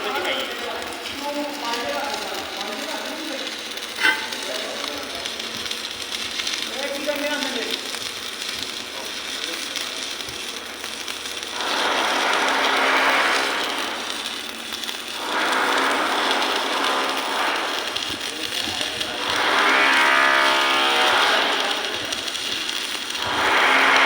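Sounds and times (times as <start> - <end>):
welding arc crackling and hissing: 0.0 - 24.0.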